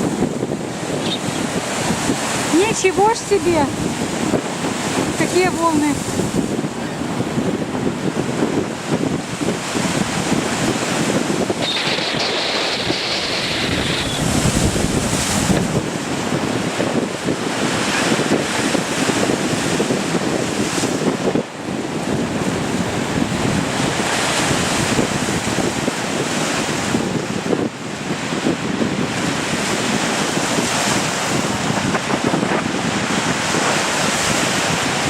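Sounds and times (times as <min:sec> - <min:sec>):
waves breaking and splashing: 0:00.0 - 0:35.0
wind buffeting microphone: 0:00.0 - 0:35.0.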